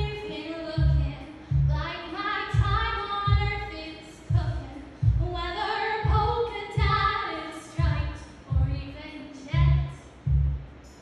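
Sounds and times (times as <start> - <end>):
backing track with low beat: 0.0 - 7.2, 7.8 - 9.0, 9.6 - 11.0.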